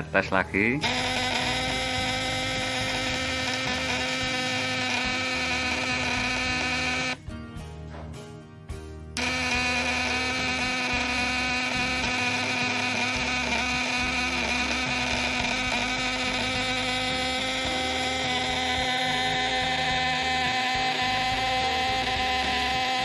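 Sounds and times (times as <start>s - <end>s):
loud electric buzz: 0.8s - 7.2s, 9.2s - 23.0s.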